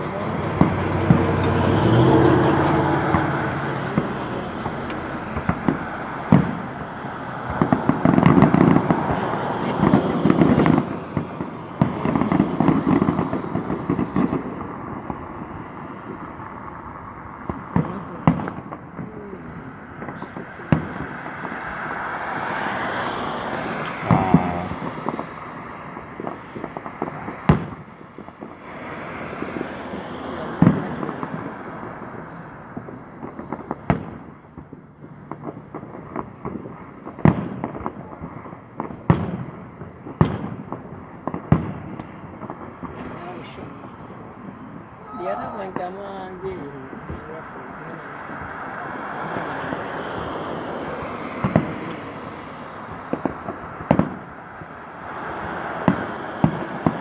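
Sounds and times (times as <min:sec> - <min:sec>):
car passing: 0:00.0 - 0:57.0
fireworks pops and bangs: 0:00.0 - 0:57.0.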